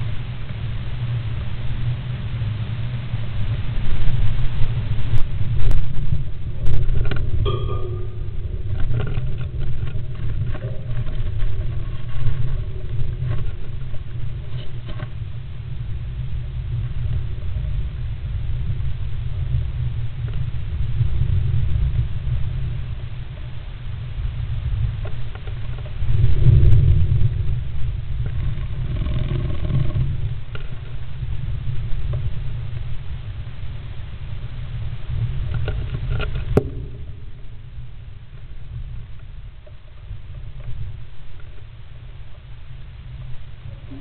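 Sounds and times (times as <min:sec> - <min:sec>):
low rumble: 0:00.0 - 0:24.9, 0:25.8 - 0:44.0.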